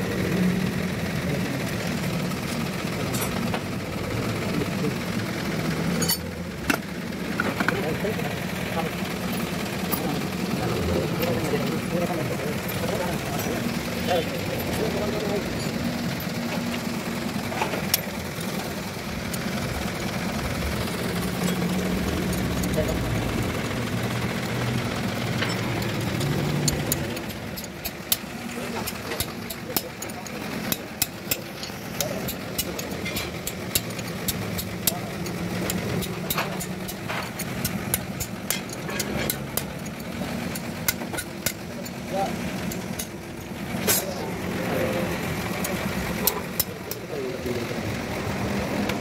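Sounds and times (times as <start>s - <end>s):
low engine-like hum: 0.0s - 49.0s
spanner clicking on bolts: 5.8s - 8.0s, 8.6s - 47.5s.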